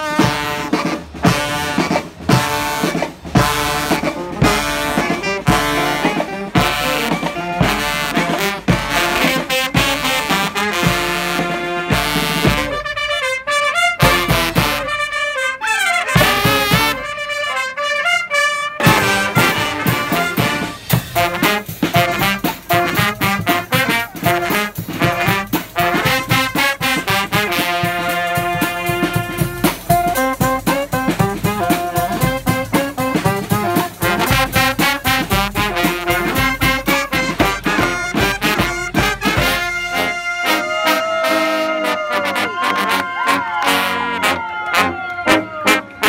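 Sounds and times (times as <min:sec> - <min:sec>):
drums: 0:00.0 - 0:15.2, 0:16.0 - 0:17.3, 0:18.7 - 0:46.0
brass band playing: 0:00.0 - 0:46.0
horns playing sliding runs: 0:00.0 - 0:46.0.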